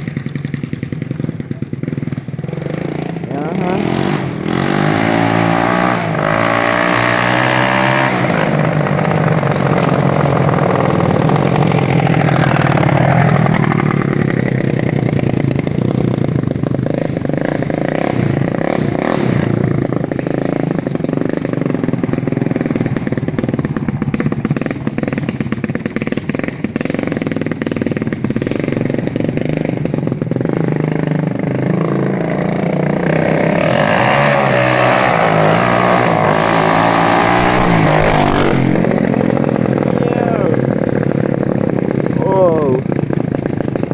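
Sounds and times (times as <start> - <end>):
unmuffled engine idling and revving: 0.0 - 43.9.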